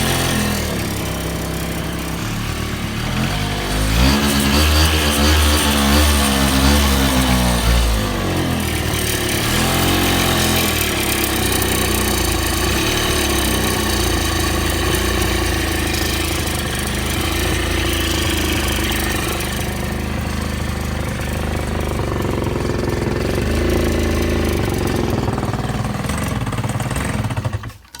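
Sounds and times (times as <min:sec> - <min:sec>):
ringing inside engine: 0:00.0 - 0:27.8
scooter two-stroke engine running: 0:00.0 - 0:28.0.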